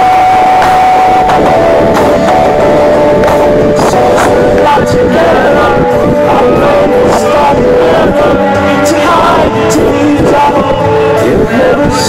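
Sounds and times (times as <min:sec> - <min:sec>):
drum beats: 0:00.0 - 0:12.0
held melody note: 0:00.0 - 0:12.0
live pop-rock band playing loud: 0:00.0 - 0:12.0.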